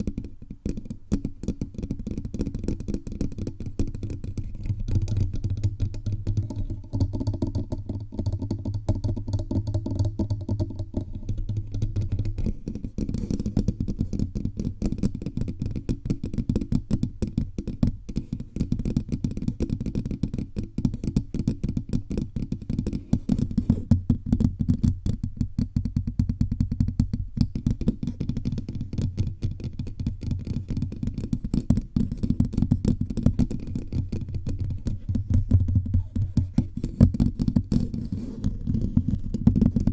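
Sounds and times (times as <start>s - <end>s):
fingertips tapping on microphone: 0.0s - 39.9s.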